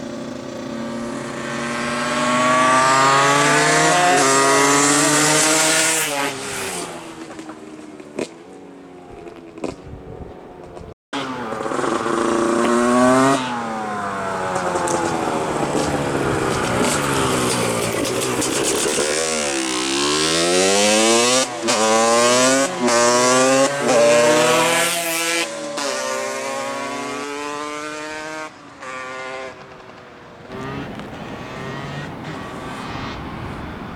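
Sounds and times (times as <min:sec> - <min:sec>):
two-stroke motorcycle engine revving: 0:00.0 - 0:07.6, 0:11.2 - 0:33.5.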